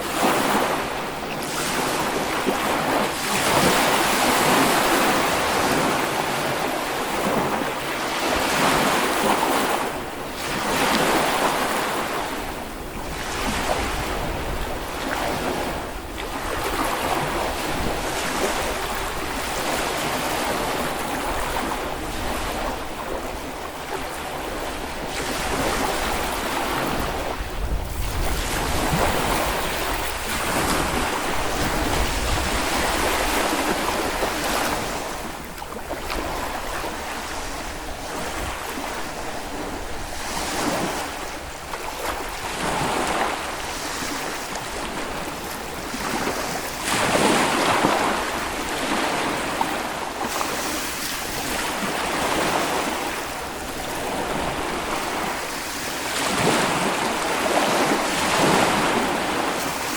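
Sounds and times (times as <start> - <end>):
small waves breaking on beach: 0.0 - 59.9
wind on microphone: 0.0 - 59.9.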